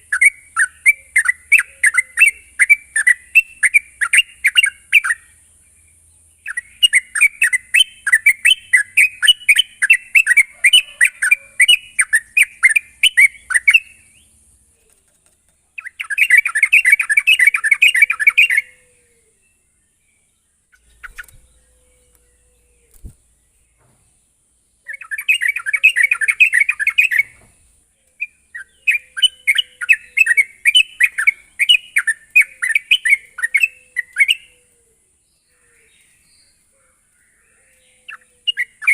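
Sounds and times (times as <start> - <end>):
bulbul chattering song: 0.0 - 19.3, 20.6 - 23.6, 24.7 - 27.4, 28.1 - 34.6, 37.8 - 38.9.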